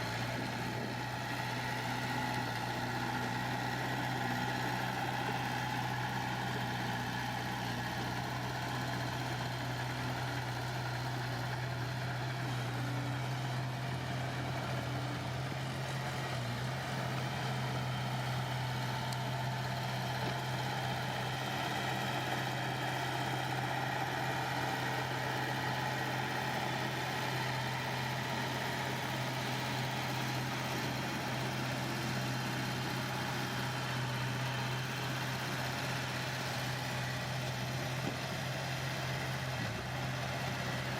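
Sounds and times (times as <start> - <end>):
construction machine engine running: 0.0 - 40.9.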